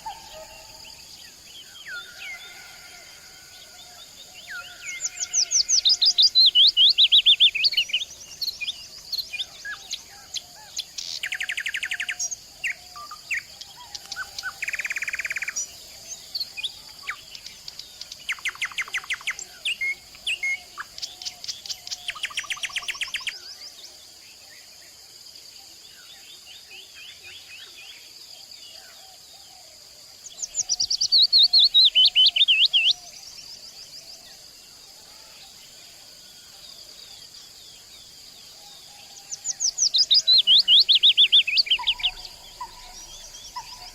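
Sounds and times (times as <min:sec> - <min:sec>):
songbirds singing: 0:00.0 - 0:25.0, 0:25.6 - 0:43.9.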